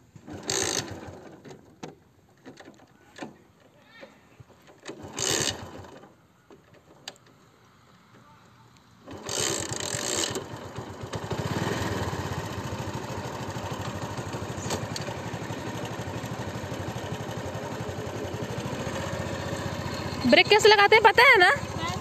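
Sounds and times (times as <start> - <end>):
motorcycle engine starting and idling: 0.0 - 3.7, 4.4 - 8.3, 8.9 - 22.0.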